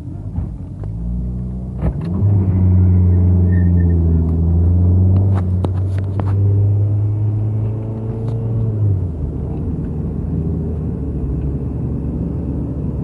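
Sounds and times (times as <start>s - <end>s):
car engine drone: 0.0s - 13.0s
road rumble: 0.0s - 13.0s.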